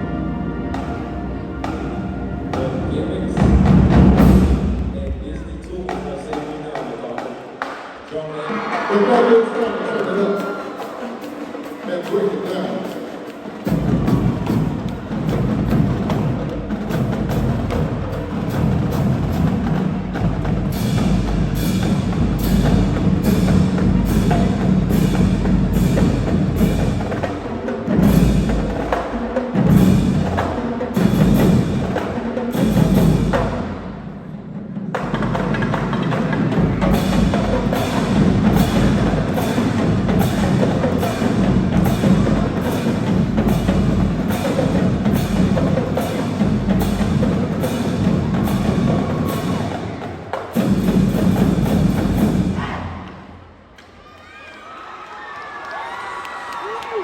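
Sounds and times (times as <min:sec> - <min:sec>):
marching band playing: 0:00.0 - 0:08.0, 0:08.6 - 0:53.7
percussion driving beat: 0:00.1 - 0:54.1.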